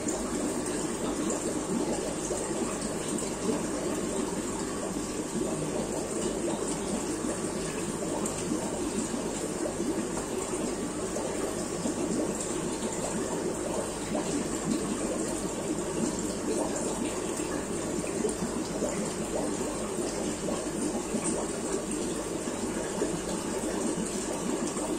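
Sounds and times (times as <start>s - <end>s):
aquarium water bubbling and trickling: 0.0s - 24.9s.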